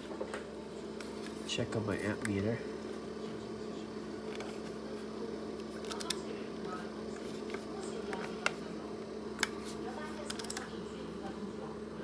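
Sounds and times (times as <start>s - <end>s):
fridge compressor and fans humming: 0.0s - 12.0s.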